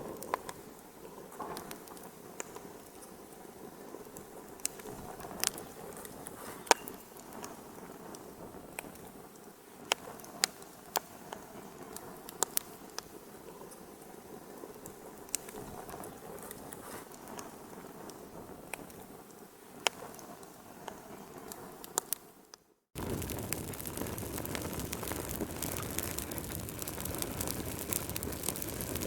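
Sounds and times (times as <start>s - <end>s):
flames rushing in a fireplace: 0.0s - 22.2s, 23.0s - 29.0s
fire crackling and popping: 0.0s - 29.0s.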